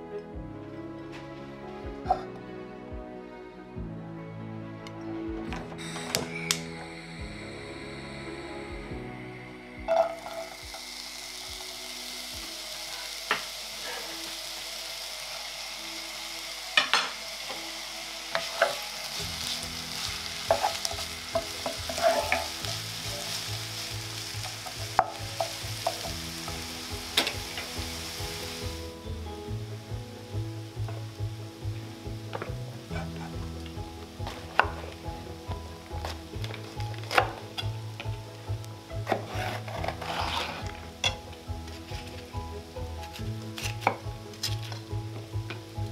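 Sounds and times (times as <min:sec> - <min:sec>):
onions sizzling in oil: 0:05.8 - 0:45.9.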